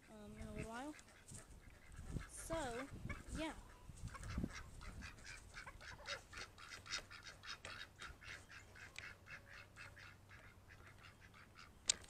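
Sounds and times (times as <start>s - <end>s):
ducks quacking faintly: 0.0s - 12.0s.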